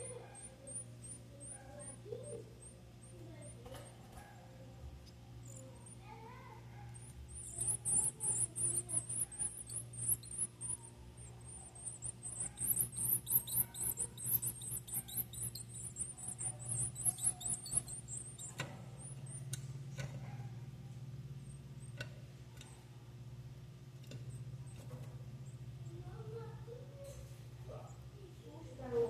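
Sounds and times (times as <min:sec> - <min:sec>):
nestlings begging chirps: 0:00.0 - 0:23.1, 0:24.1 - 0:26.8.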